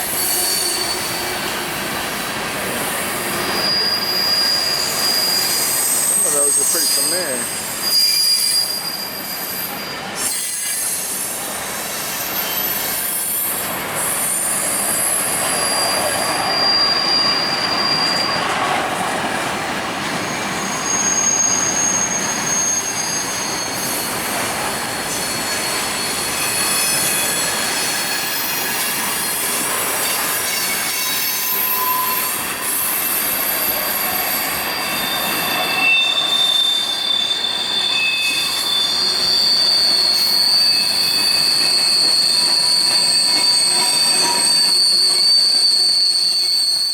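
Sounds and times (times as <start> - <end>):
high wheel squeals: 0.0 - 18.9, 20.1 - 46.9
freight train cars rolling: 0.0 - 46.9.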